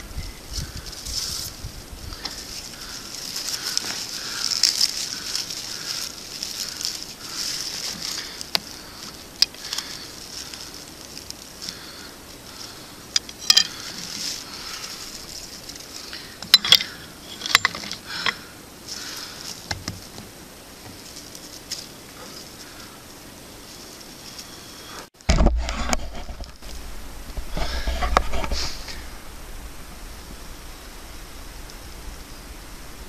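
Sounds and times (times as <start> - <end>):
dry grass rustling and crackling: 0.0 - 33.0
steady hiss: 0.0 - 33.0.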